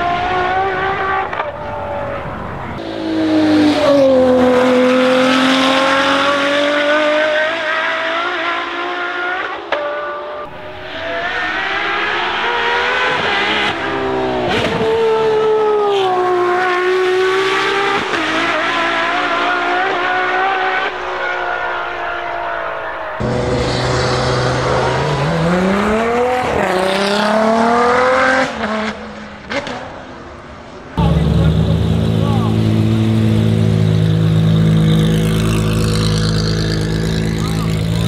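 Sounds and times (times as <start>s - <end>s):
race car engine at high revs: 0.0s - 30.3s, 30.9s - 38.0s.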